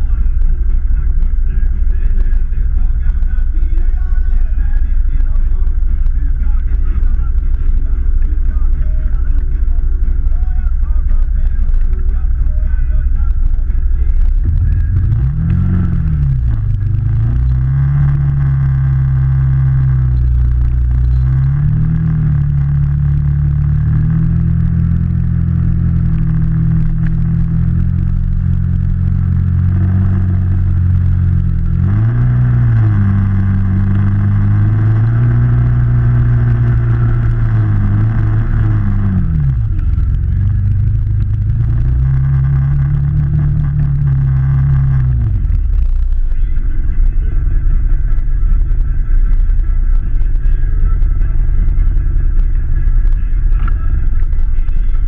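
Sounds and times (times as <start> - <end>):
higher whirring: 0.0 - 55.0
vehicle engine at low revs: 0.0 - 55.0.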